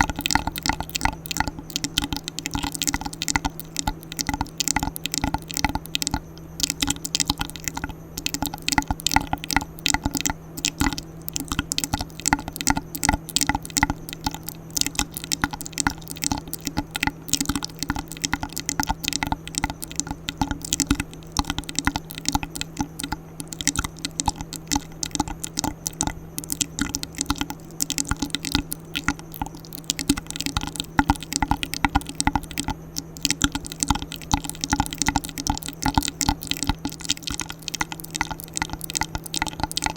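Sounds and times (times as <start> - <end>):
faint low hum: 0.0 - 39.9
wet mouth clicks and smacks: 0.0 - 39.9.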